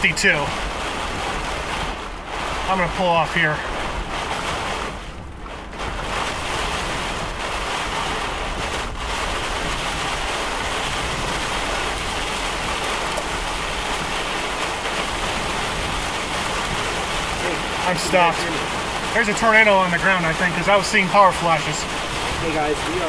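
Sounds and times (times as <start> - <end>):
heavy rain on vehicle: 0.0 - 23.0
high wind: 0.0 - 23.0.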